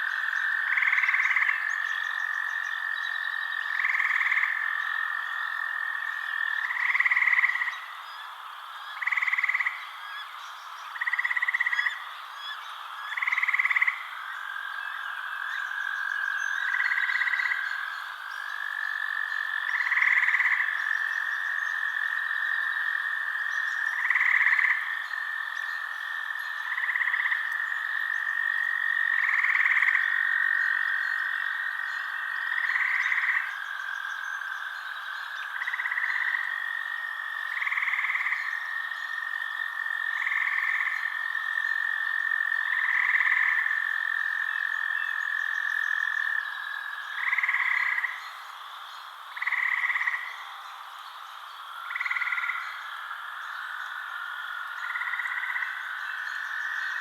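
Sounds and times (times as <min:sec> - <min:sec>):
frogs pulsed calls: 0:00.0 - 0:57.0
frogs trilling: 0:00.0 - 0:57.0.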